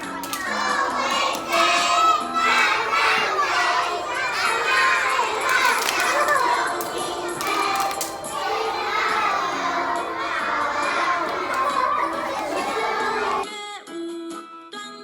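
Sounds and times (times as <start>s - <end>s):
children shouting and chattering: 0.0s - 13.4s.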